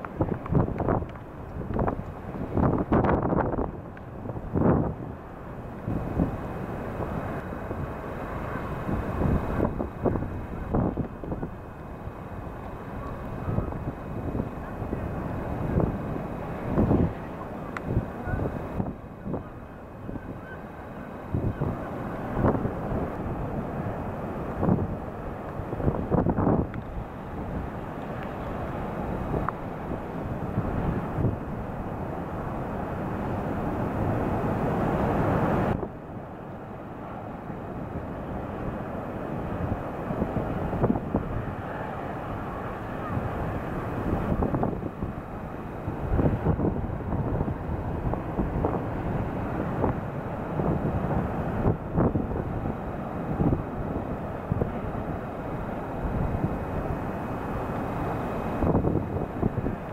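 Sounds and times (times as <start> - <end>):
low rumble of surf: 0.0 - 59.9
storm wind on microphone: 0.0 - 59.9.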